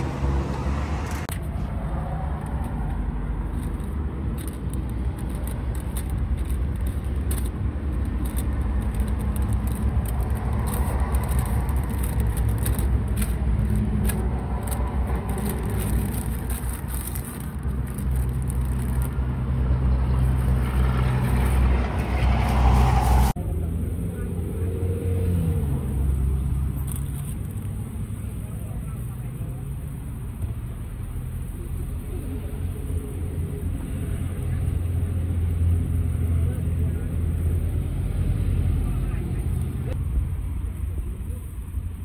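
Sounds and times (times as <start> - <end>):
road traffic: 0.0 - 42.0
vehicle engine humming: 0.0 - 42.0.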